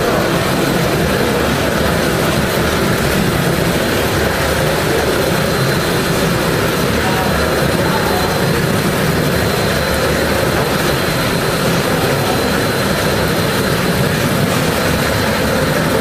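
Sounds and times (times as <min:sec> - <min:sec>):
factory hall hum: 0:00.0 - 0:16.0
stretch wrapping machine running: 0:00.0 - 0:16.0.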